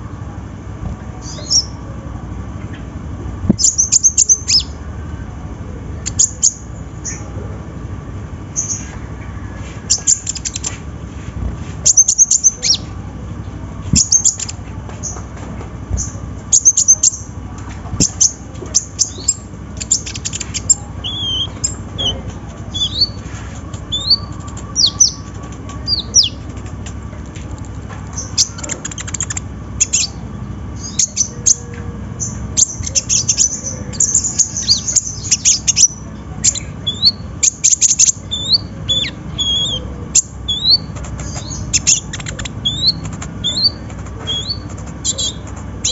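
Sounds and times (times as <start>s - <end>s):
sunbird singing: 1.1s - 2.0s, 3.6s - 7.4s, 8.5s - 10.8s, 11.8s - 15.3s, 15.9s - 17.4s, 18.0s - 26.9s, 28.1s - 45.9s.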